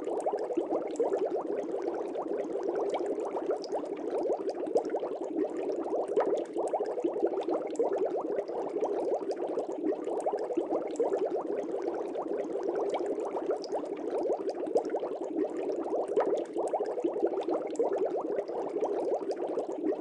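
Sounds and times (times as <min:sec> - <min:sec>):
aquarium water bubbling: 0:00.0 - 0:20.0.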